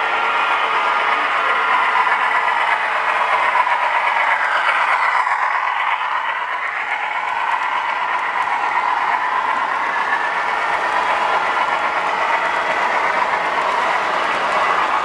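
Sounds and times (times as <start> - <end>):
model train wheels clattering on rails: 0.0 - 15.0.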